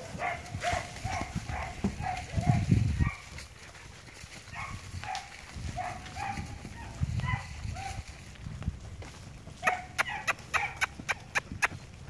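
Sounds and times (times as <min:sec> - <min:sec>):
horse hoofbeats on soft dirt: 0:00.0 - 0:12.0.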